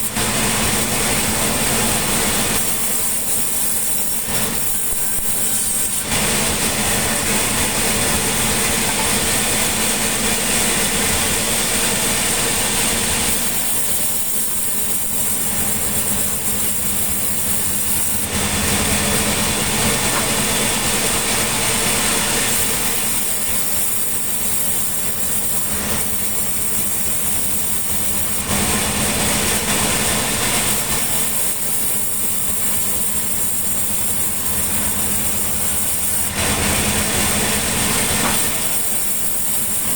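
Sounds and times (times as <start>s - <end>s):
saw cutting wood hissing: 0.0s - 39.9s
sawmill engine humming: 0.0s - 39.9s.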